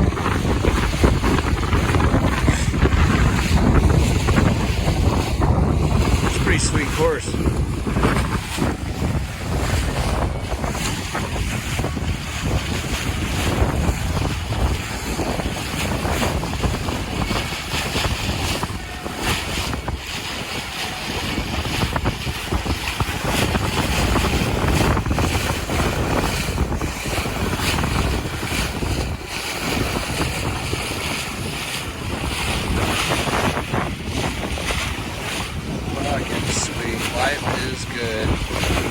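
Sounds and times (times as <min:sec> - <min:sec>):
water splashing along hull: 0:00.0 - 0:38.9
wind buffeting microphone: 0:00.0 - 0:38.9.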